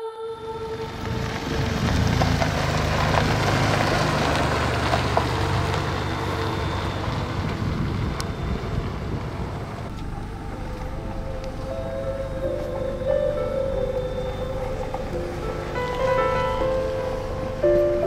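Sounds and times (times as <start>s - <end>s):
car engine passing: 0.3s - 18.0s
tyres on loose gravel: 0.6s - 18.0s.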